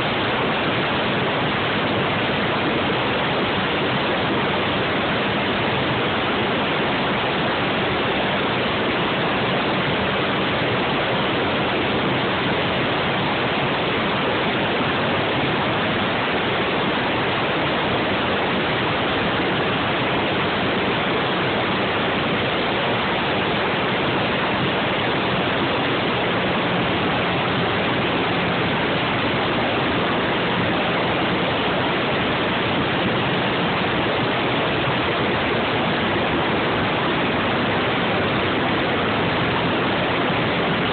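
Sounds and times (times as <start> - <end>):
faint engine hum: 0.0 - 40.9.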